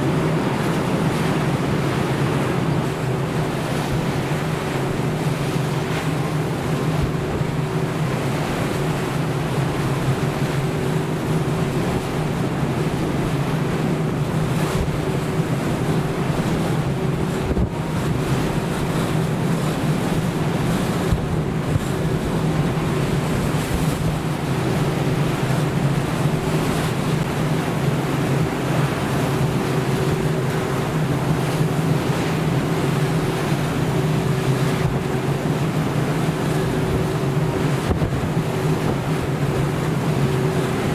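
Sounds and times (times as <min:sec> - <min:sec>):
waves rushing: 0:00.0 - 0:40.9
wind buffeting microphone: 0:00.0 - 0:40.9.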